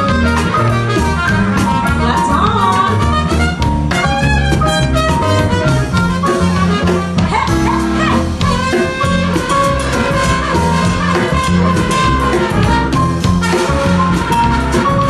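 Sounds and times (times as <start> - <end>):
drum kit: 0.0 - 15.0
saxophone: 0.0 - 15.0
trumpets: 0.0 - 15.0
upright bass: 0.0 - 15.0.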